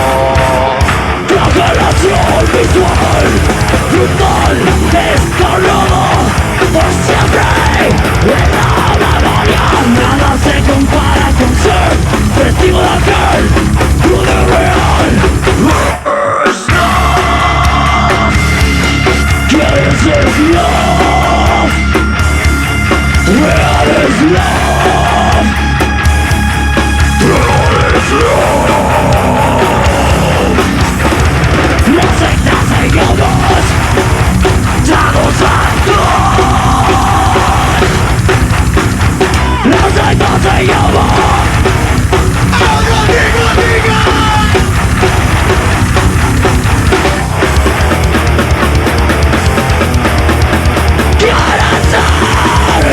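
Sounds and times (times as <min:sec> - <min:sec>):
metal band playing loud: 0:00.0 - 0:52.9.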